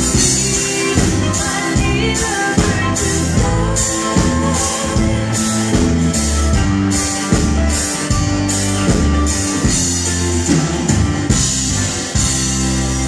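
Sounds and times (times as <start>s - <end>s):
live country band playing: 0.0s - 13.0s
steady drum beat: 0.0s - 13.0s.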